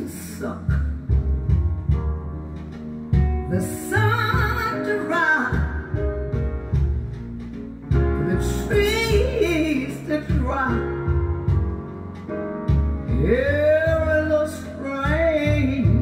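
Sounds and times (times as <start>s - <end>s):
slow song from vinyl record: 0.0s - 16.0s.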